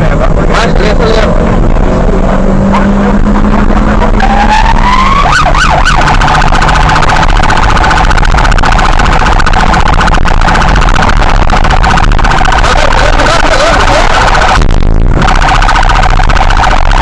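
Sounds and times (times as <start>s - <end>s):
engine and road noise: 0.0s - 17.0s
electronic police siren: 2.7s - 17.0s.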